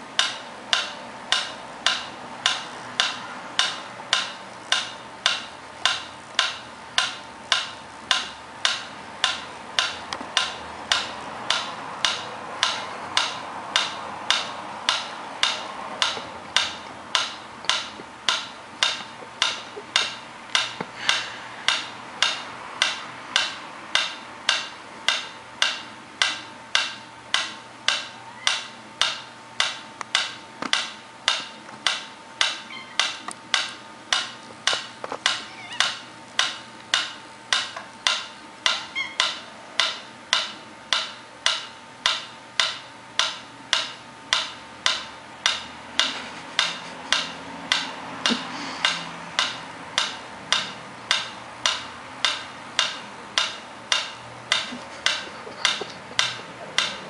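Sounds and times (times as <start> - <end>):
metronome ticking: 0.0 - 57.0.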